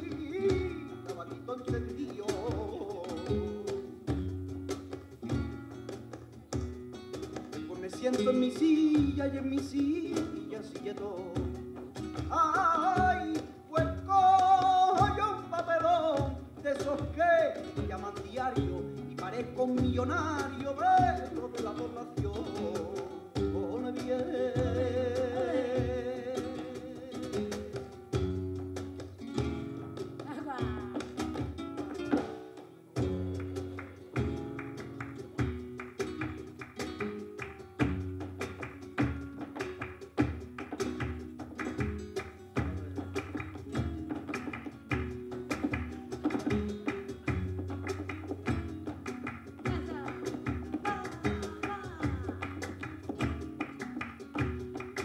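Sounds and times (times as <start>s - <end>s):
acoustic guitar: 0.0s - 55.0s
handclaps: 0.0s - 55.0s.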